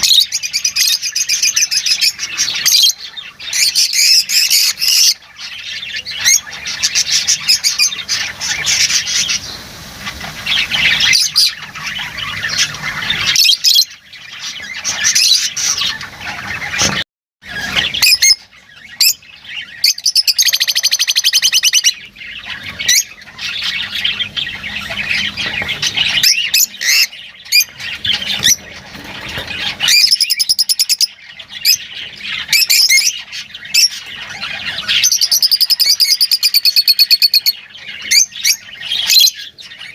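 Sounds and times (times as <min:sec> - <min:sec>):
lovebirds chattering: 0:00.0 - 0:39.9.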